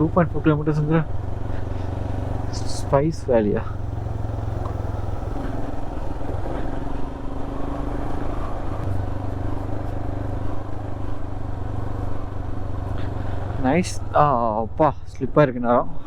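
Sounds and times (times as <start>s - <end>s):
motorcycle engine running: 0.0s - 16.0s
road noise: 0.0s - 16.0s.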